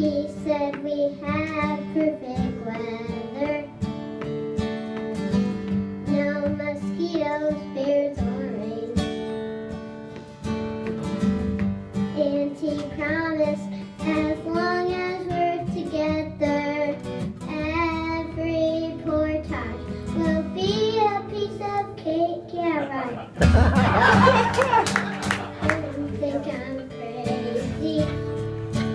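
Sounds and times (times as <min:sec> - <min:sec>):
girl singing: 0:00.0 - 0:04.2, 0:05.2 - 0:09.5, 0:12.0 - 0:23.3, 0:25.5 - 0:28.9
strummed acoustic guitar: 0:00.0 - 0:28.9.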